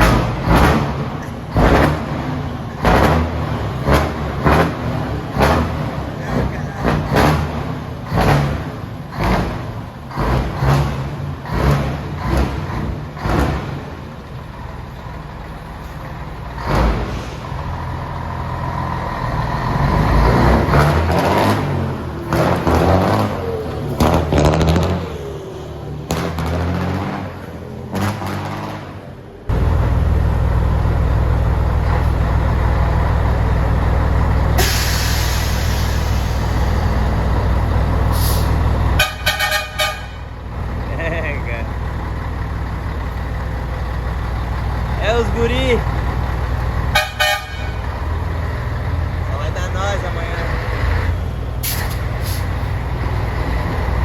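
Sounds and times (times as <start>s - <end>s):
loud engine drone: 0.0s - 54.0s.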